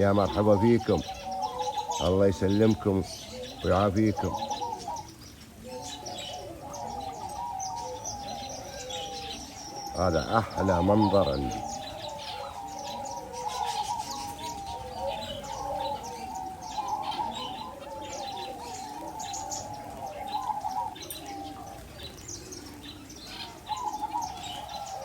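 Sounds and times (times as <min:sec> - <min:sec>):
many birds chirping: 0:00.0 - 0:25.0.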